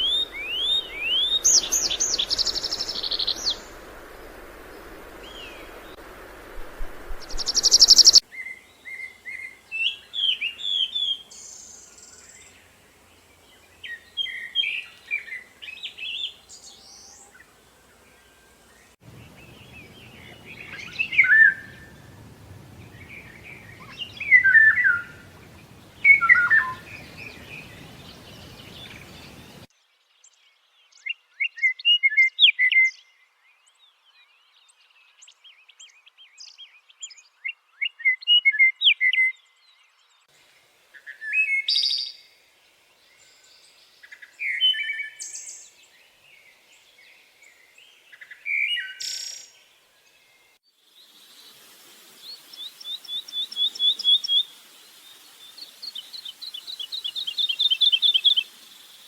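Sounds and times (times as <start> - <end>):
small songbirds singing: 0.0 - 6.1, 7.1 - 59.0
faint low hiss: 0.0 - 31.0, 39.6 - 59.0.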